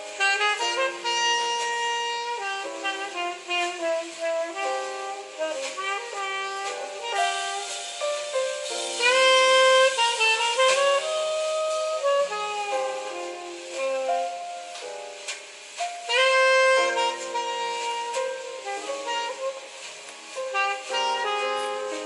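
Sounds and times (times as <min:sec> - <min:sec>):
instrumental music with held notes: 0:00.0 - 0:22.0.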